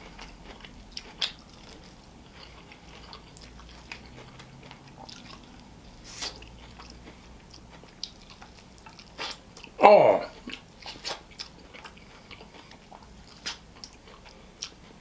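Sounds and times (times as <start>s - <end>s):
chewing and biting corn: 0.0s - 15.0s.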